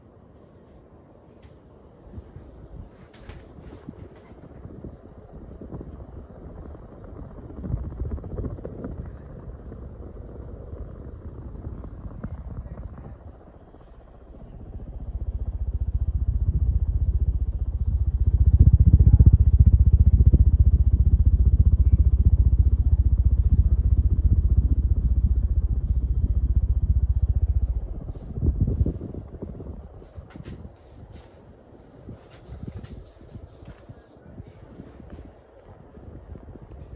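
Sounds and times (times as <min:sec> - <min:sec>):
ceiling fan airflow rumble: 0:00.0 - 0:36.9.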